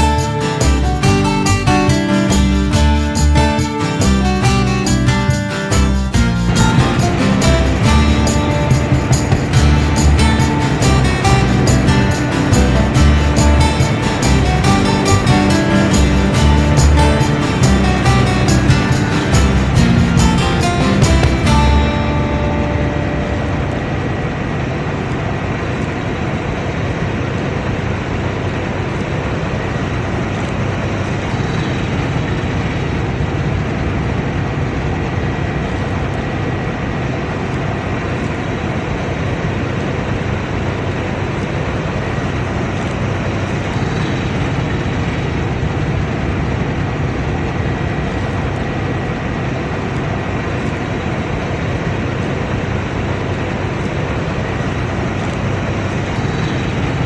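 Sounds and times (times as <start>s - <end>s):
combine harvester engine drone: 0.0s - 57.0s
faint high whine: 5.7s - 57.0s.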